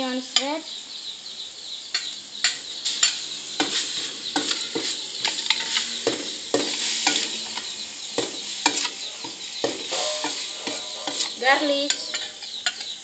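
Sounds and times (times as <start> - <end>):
food sizzling in hot oil: 1.8 - 13.0
metal spatula scraping a wok: 2.4 - 13.0.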